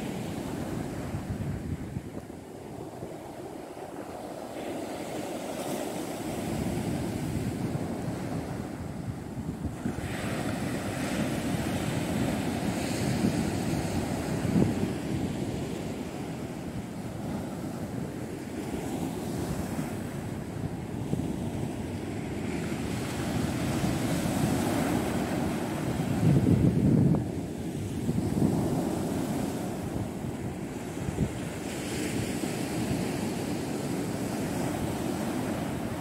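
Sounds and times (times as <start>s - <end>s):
sea waves breaking on beach: 0.0s - 36.0s
wind rumbling on microphone: 0.0s - 36.0s.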